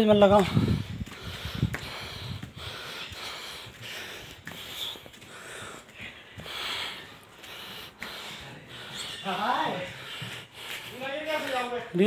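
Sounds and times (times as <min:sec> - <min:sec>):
person breathing hard: 0:00.4 - 0:11.7.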